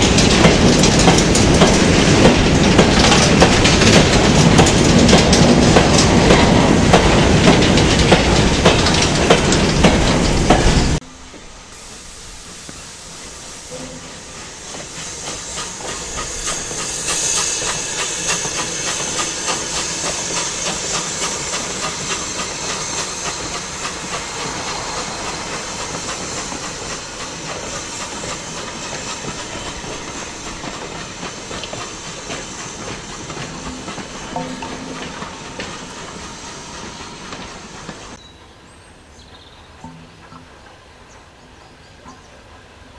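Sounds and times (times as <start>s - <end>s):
steam hissing: 0.0s - 38.2s
train wheels clicking on rail joints: 0.0s - 38.2s.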